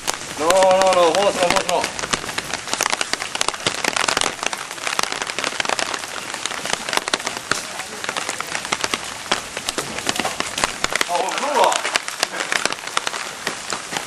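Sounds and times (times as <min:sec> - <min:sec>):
raindrop hits clicking: 0:00.0 - 0:14.0
steady rain: 0:00.0 - 0:14.0.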